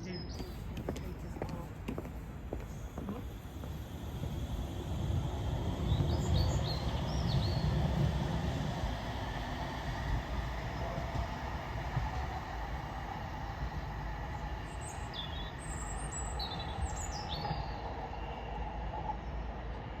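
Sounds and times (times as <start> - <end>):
birds chirping: 0.0 - 18.0
tram rumbling: 0.1 - 20.0.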